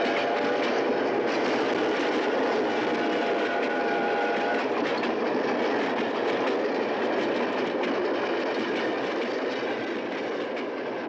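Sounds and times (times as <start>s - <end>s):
train wheels rattling on track: 0.0s - 11.0s.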